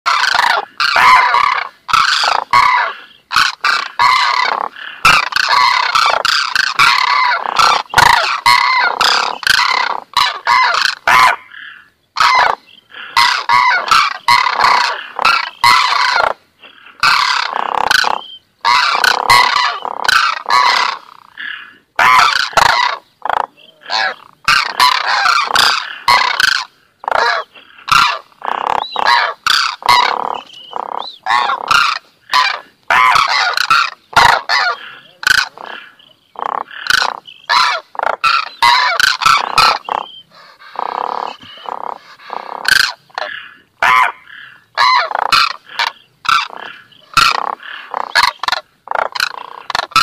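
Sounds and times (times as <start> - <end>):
cranes honking and trumpeting: 0.1 - 50.0.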